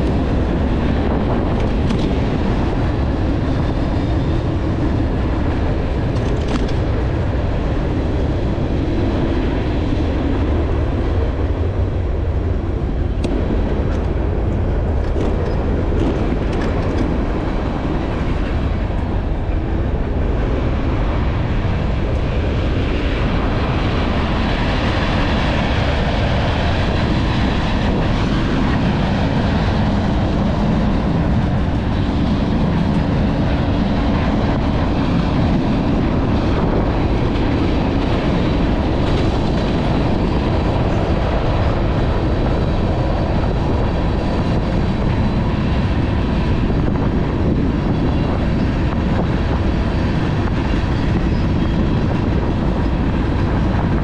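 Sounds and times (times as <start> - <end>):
train rail noise: 0.0 - 54.0.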